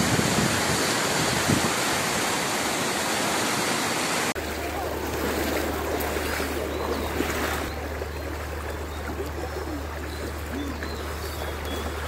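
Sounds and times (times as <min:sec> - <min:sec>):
floodwater rushing in stream: 0:00.0 - 0:12.0.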